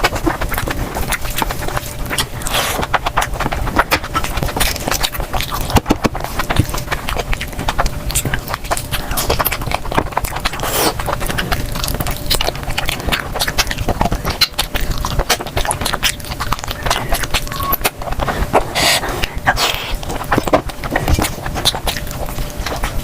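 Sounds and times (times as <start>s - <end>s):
chewing and mouth noises: 0.0s - 23.0s.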